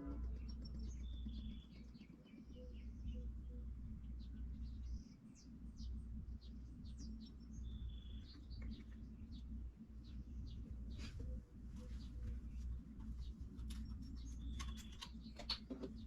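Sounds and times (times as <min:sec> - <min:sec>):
faint low rumble: 0:00.0 - 0:16.0
small birds chirping: 0:00.0 - 0:16.0.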